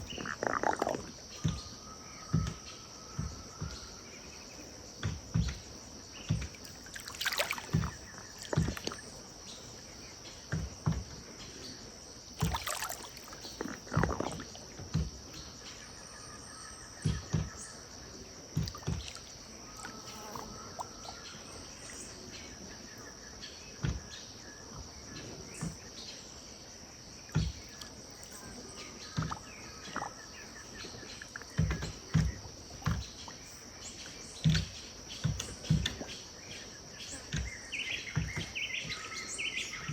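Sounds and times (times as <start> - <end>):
river water lapping at bank: 0.0 - 25.9, 27.2 - 39.9
faint bird calls: 0.0 - 26.4, 27.2 - 39.9
high-pitched insect chorus: 0.0 - 39.9.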